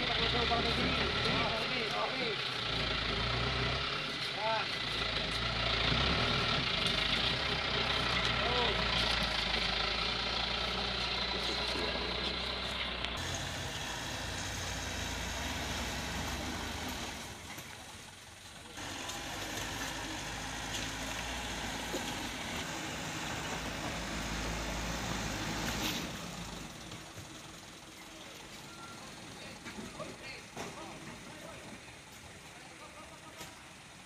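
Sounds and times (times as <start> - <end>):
diesel engine low drone: 0.0 - 34.0.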